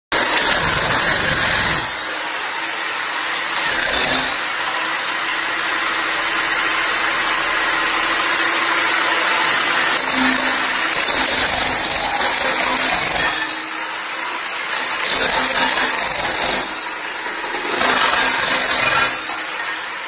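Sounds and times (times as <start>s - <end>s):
electric breaker hammer hammering: 0.1s - 20.0s.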